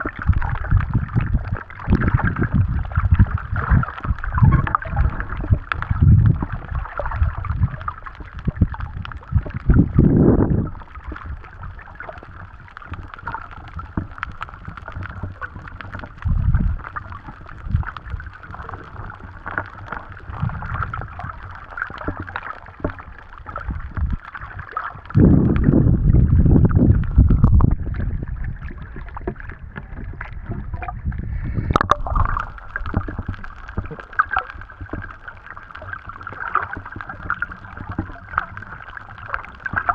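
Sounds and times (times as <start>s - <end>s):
crackle of small clicks: 0.0s - 39.9s
underwater rushing water: 0.0s - 39.9s.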